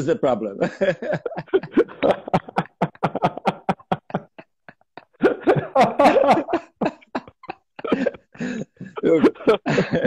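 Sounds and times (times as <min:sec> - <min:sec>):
men laughing hard: 0:00.5 - 0:10.0.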